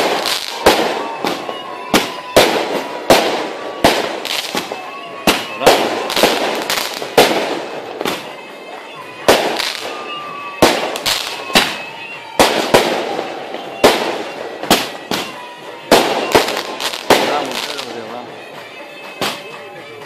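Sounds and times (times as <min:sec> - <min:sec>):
faint fireworks whistling: 0:00.0 - 0:20.0
fireworks bangs and crackling: 0:00.0 - 0:20.0.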